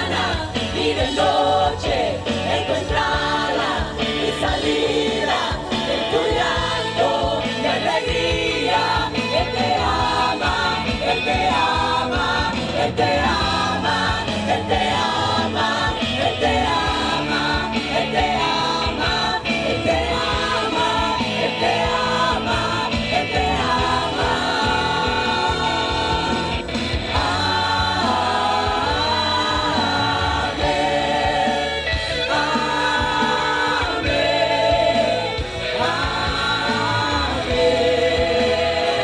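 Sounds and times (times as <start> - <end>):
choir singing held notes: 0.0 - 39.0.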